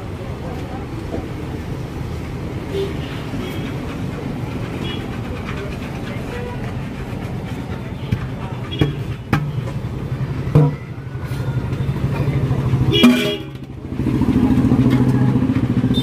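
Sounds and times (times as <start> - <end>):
vehicle engine throbbing: 1.2 - 16.0.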